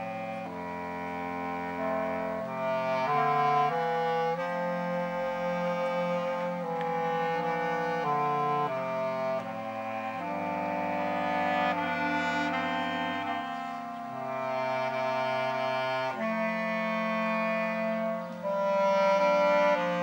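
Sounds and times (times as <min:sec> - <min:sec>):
clarinet ensemble playing chords: 0:00.0 - 0:20.0.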